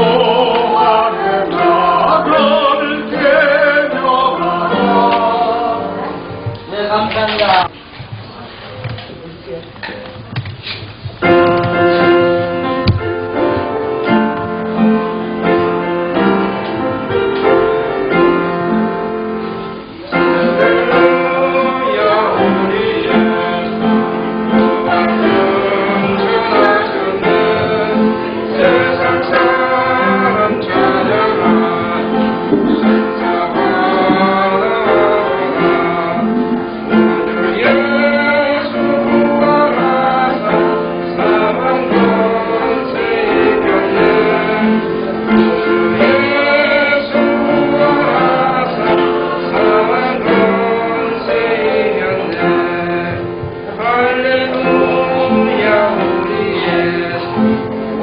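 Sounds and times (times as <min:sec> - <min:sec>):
voices singing a hymn: 0:00.0 - 0:07.0, 0:11.3 - 0:58.0
keyboard accompaniment: 0:00.0 - 0:08.4, 0:09.9 - 0:58.0.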